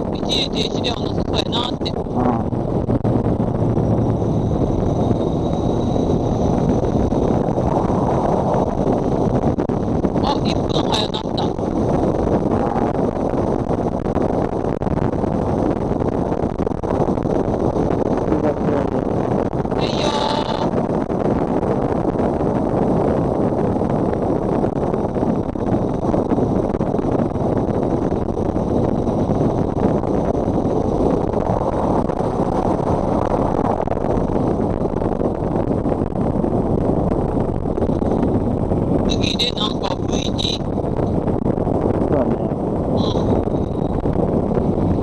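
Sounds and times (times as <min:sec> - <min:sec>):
wind and road noise roar: 0:00.0 - 0:45.0.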